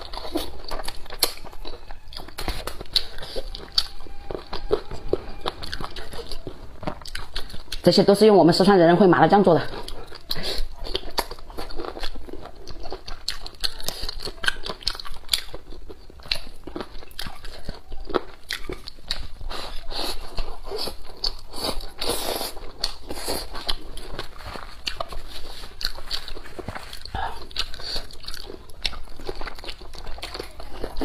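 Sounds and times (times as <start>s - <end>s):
person chewing wetly: 0.0s - 31.0s.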